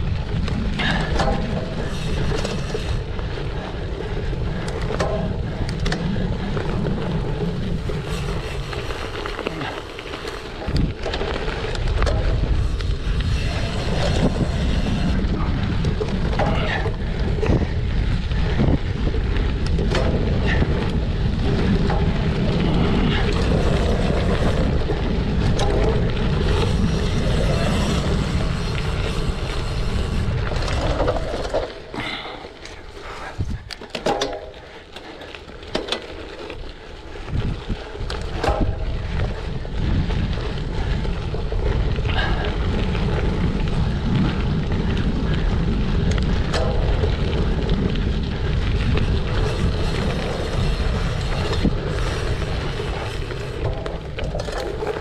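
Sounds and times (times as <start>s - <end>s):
wind rushing over microphone: 0.0s - 34.5s, 35.1s - 55.0s
bike rattling over rough ground: 0.0s - 55.0s.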